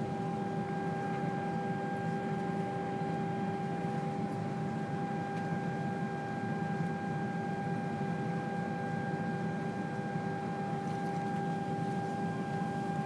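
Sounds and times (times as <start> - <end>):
aircraft cabin rumble and air hiss: 0.0 - 13.0.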